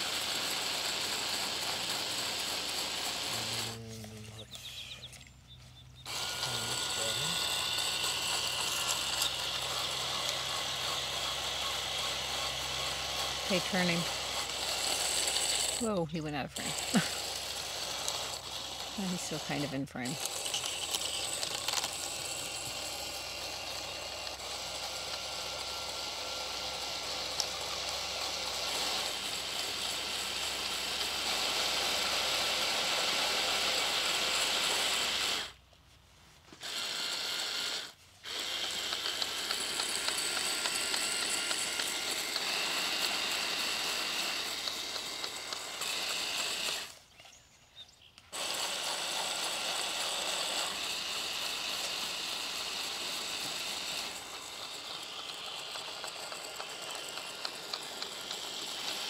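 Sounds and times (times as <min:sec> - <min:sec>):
small electric motors whining: 0:00.0 - 0:35.7, 0:36.4 - 0:47.5, 0:48.2 - 0:59.0.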